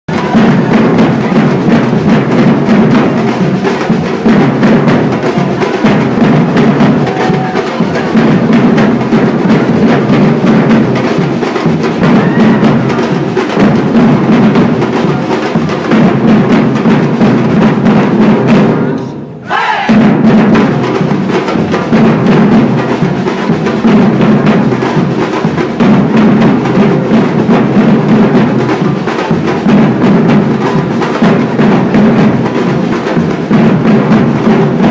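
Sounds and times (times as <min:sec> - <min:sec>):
percussion ensemble drumming: 0:00.1 - 0:34.9.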